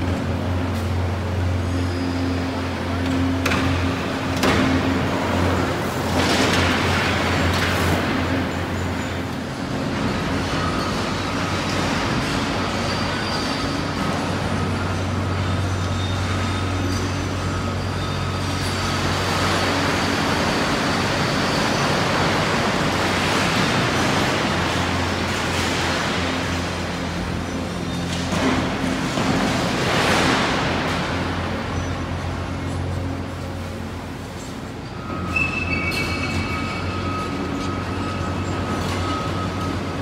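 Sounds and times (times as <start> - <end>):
excavator diesel engine: 0.0 - 40.0.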